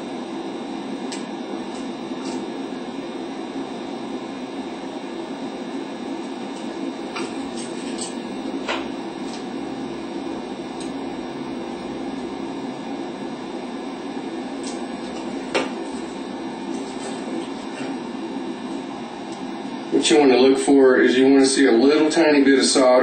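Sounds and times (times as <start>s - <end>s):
soldering gun humming: 0.0s - 23.0s.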